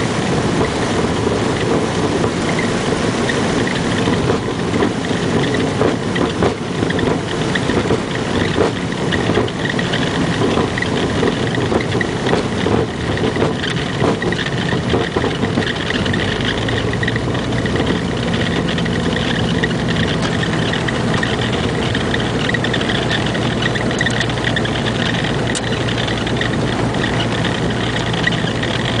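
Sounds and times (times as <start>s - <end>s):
light aircraft engine: 0.0s - 29.0s
knocks and rattles: 0.1s - 29.0s.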